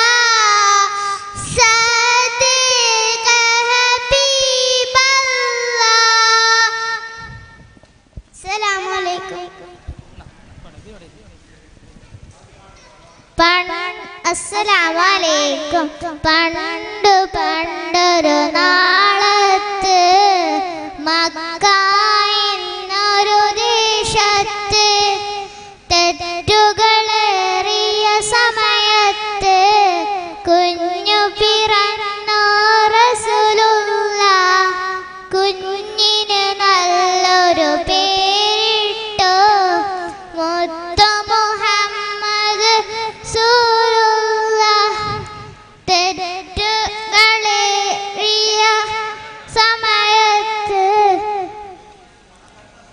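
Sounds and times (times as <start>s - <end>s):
girl singing into microphone: 0.0s - 10.0s, 13.3s - 52.2s.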